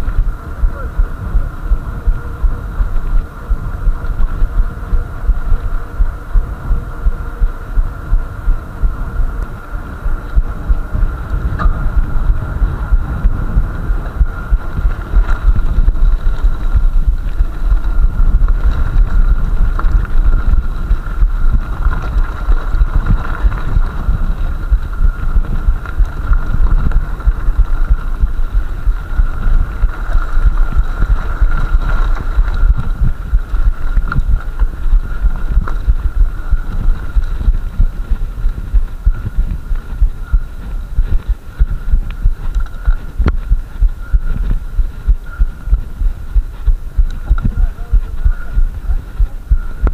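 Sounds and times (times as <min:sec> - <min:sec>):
bike rolling vibration: 0:00.0 - 0:49.9
wind buffeting microphone: 0:00.0 - 0:49.9.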